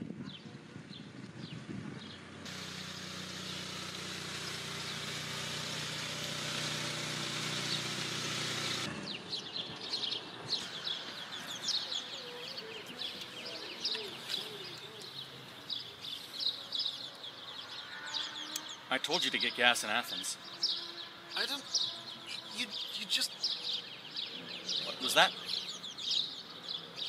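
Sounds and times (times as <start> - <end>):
small birds chirping: 0.2 - 27.0.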